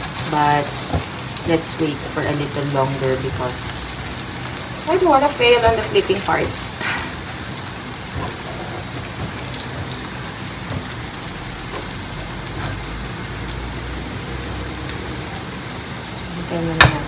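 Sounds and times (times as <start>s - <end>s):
pancake sizzling in oil: 0.0s - 17.0s.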